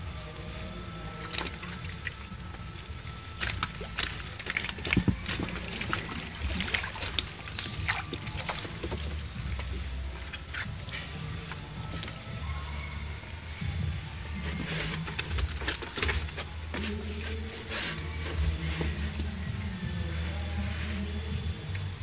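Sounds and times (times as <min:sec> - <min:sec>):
water splashing and sloshing: 0:00.9 - 0:20.0.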